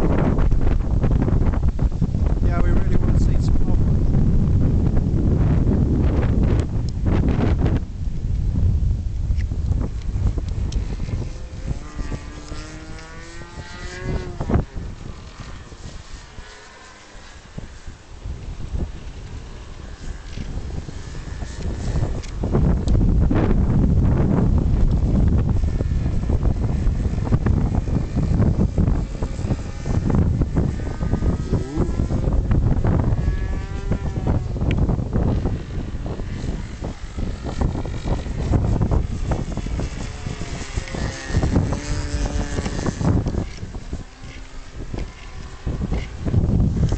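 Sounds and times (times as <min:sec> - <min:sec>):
model aircraft motor droning: 0:00.0 - 0:46.9
wind buffeting microphone: 0:00.0 - 0:46.9.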